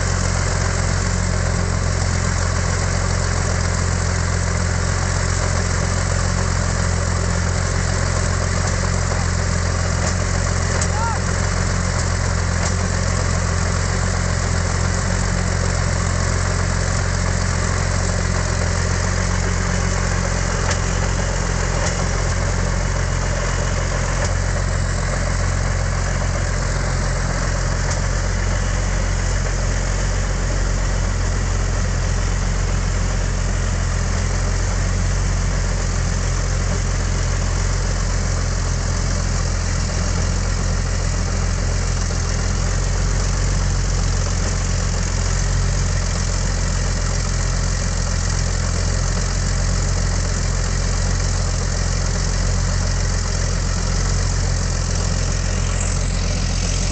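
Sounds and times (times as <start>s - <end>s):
aero engine running steadily: 0.0s - 56.9s.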